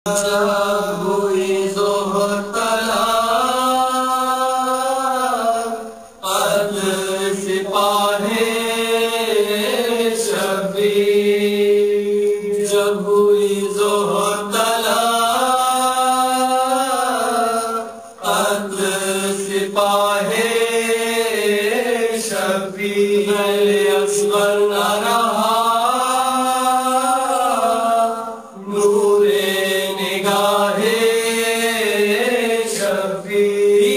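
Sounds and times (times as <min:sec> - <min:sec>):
person chanting a lament: 0:00.1 - 0:33.9.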